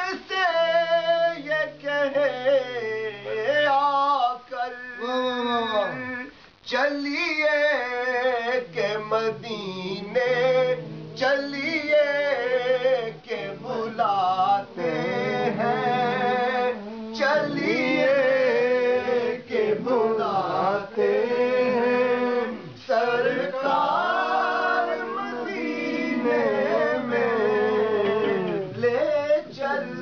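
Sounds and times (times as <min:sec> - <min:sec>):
man singing devotional song: 0:00.0 - 0:30.0.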